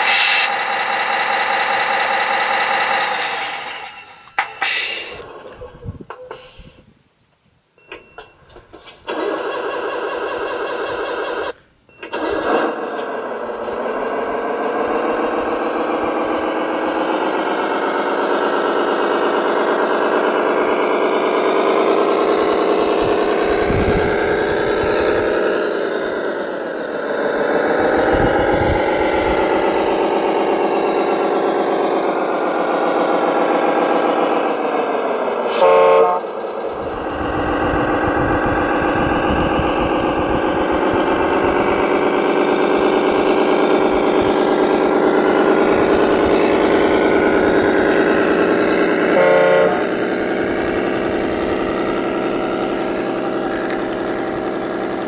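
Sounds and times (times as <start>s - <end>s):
toy vehicle engine sound: 0.0s - 6.8s, 8.8s - 35.6s, 36.2s - 55.0s.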